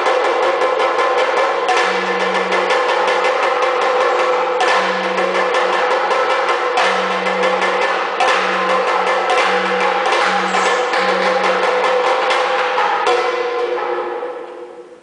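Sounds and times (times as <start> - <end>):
drum beaten rapidly with sticks: 0.0 - 14.8.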